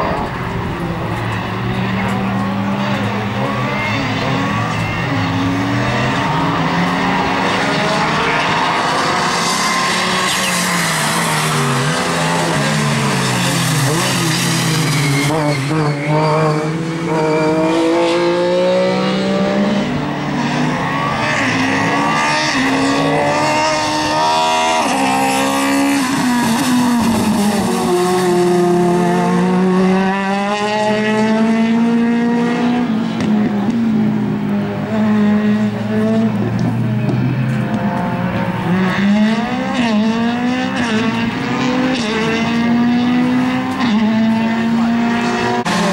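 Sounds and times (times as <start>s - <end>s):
cars passing: 0.0s - 45.9s
rally car engines revving: 0.0s - 45.9s.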